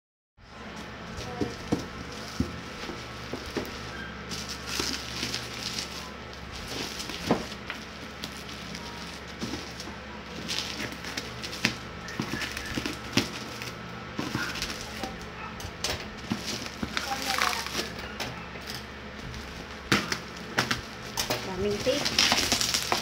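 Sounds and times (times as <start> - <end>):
bubble wrap crinkling: 0.8 - 23.0.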